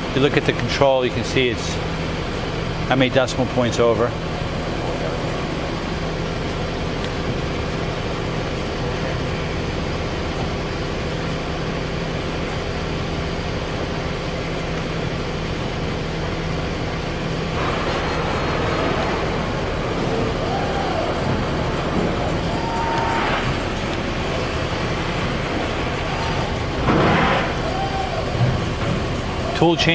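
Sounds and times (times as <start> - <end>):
shop machinery humming: 0.0 - 29.9.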